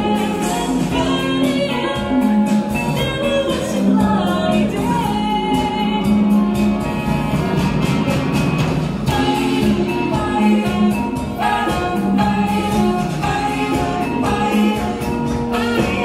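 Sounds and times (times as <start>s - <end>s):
cha-cha-cha dance music: 0.0s - 16.0s.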